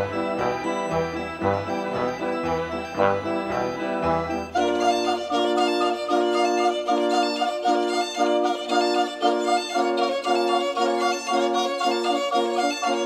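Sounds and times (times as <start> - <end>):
instrumental music repeated notes: 0.0 - 13.0.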